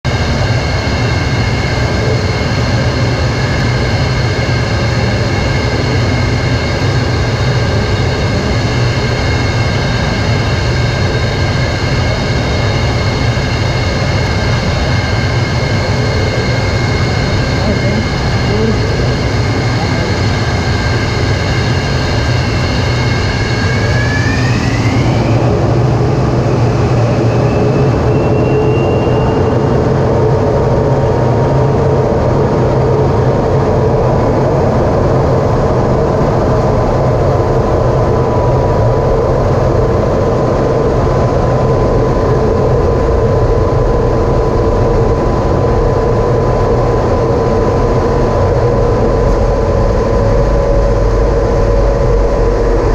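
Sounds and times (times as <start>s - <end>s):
jet engine whine and rumble: 0.0s - 52.9s.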